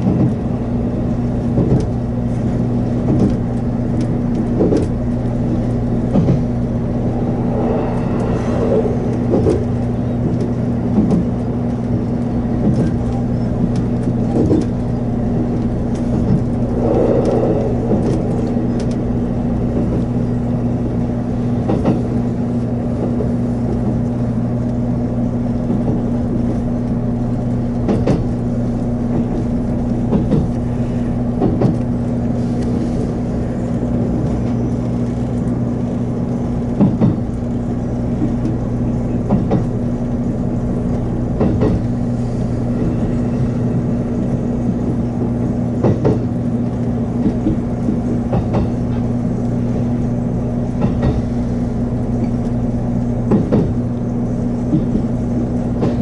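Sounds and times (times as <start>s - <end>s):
train running hum: 0.0s - 56.0s.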